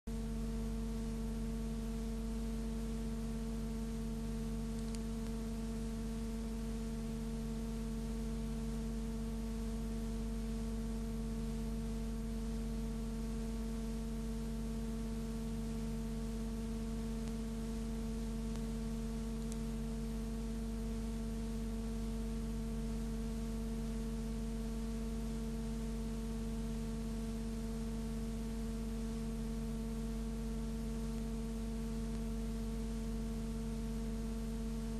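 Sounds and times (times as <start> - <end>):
electrical hum: 0.1 - 34.9.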